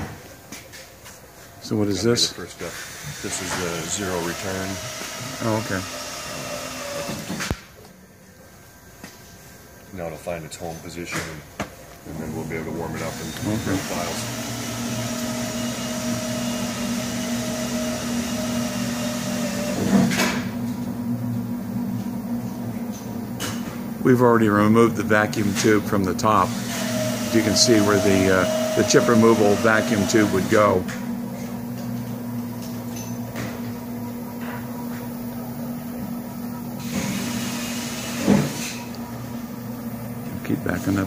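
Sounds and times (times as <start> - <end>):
machine hum and whine: 0.0 - 41.0.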